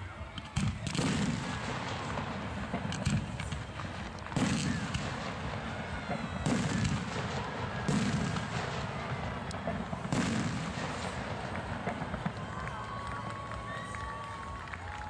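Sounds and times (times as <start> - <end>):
firework shells booming: 0.4 - 12.7.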